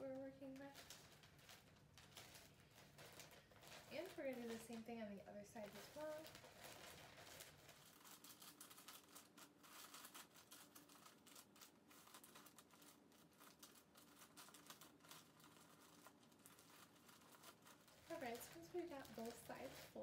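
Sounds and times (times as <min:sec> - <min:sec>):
wrapping paper crinkling: 0:00.0 - 0:20.0.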